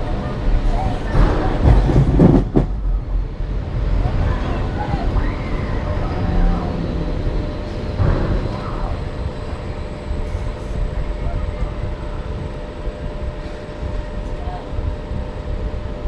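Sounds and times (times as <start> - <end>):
ride carriage rumbling: 0.0 - 16.0.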